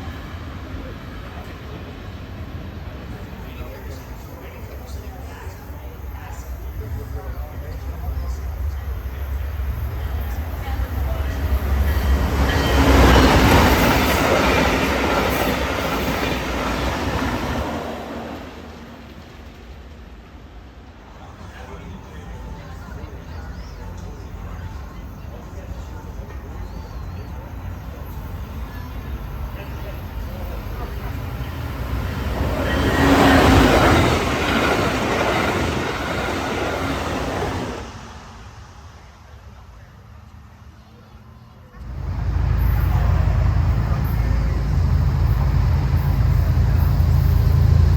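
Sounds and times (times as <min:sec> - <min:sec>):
train wheels rushing on rails: 0:00.0 - 0:40.5, 0:41.8 - 0:47.9.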